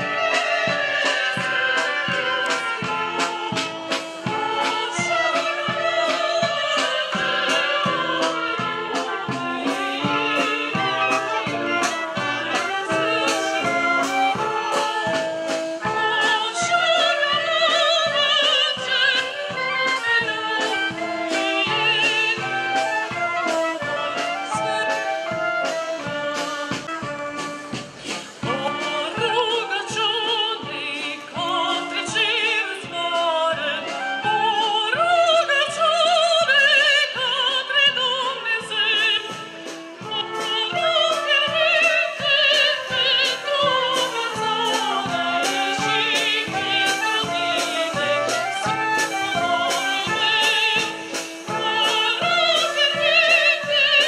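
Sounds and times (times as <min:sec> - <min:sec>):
instrumental accompaniment with beat: 0:00.0 - 0:54.0
woman singing operatically: 0:00.0 - 0:54.0.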